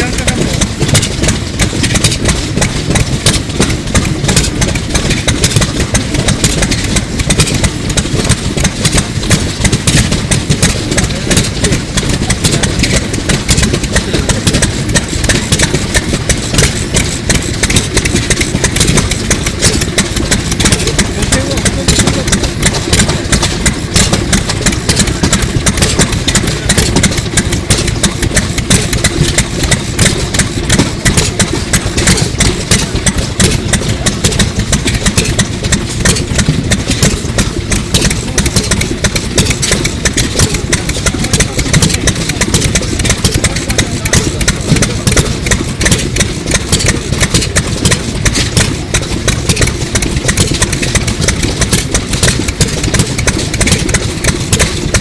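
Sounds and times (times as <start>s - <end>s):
engine knocking: 0.0s - 55.0s.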